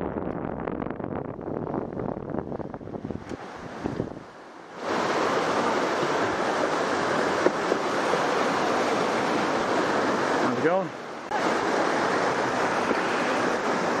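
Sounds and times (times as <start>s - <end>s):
wind noise on microphone: 0.0s - 14.0s
white water rushing: 1.5s - 14.0s.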